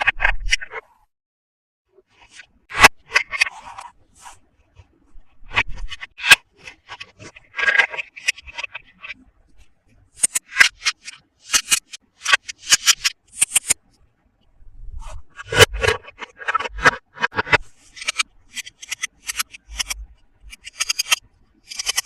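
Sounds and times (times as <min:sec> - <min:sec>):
sharp clicks and scrapes: 0:00.0 - 0:01.1, 0:02.0 - 0:22.0.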